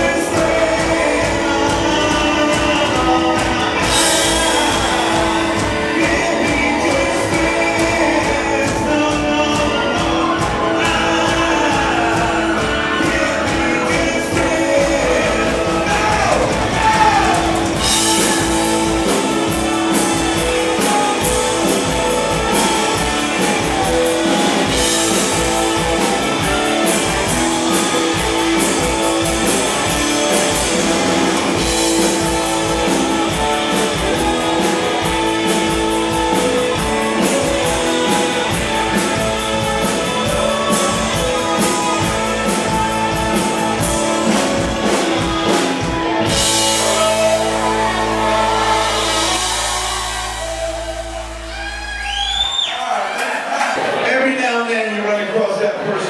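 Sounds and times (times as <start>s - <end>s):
driving drum kit: 0.0s - 52.7s
electric guitars: 0.0s - 52.7s.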